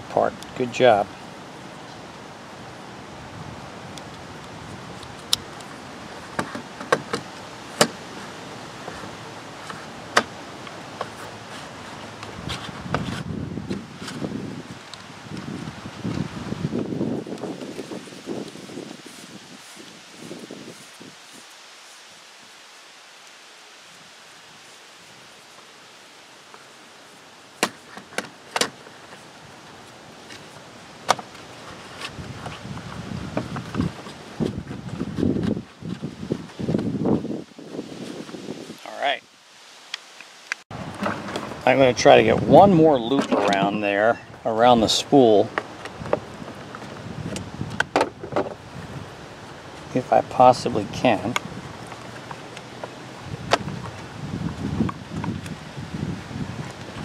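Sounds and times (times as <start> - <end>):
wind rumble on microphone: 0.0 - 22.6, 29.4 - 39.2, 40.7 - 57.0
steady background hiss: 0.0 - 57.0
rustle of handling: 3.7 - 57.0.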